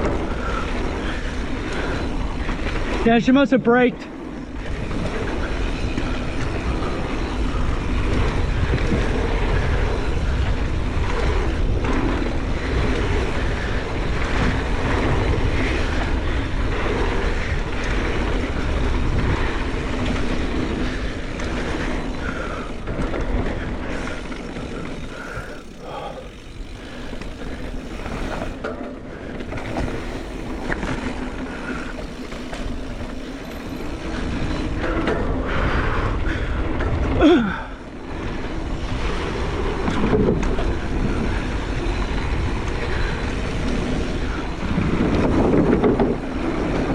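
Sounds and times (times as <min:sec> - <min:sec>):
bike rattling: 0:00.0 - 0:46.9
bike tyres rolling: 0:00.0 - 0:46.9
wind on microphone: 0:04.2 - 0:28.6, 0:29.2 - 0:46.9.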